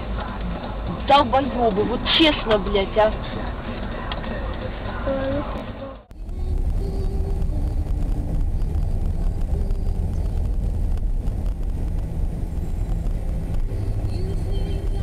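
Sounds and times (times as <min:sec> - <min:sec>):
car interior driving rumble: 0:00.0 - 0:15.0.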